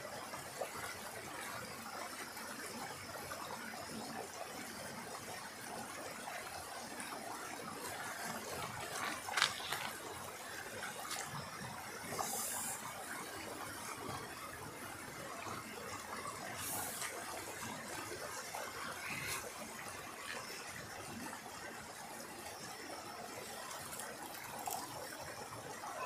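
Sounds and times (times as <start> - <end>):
stream rushing over rocks: 0.0 - 26.0.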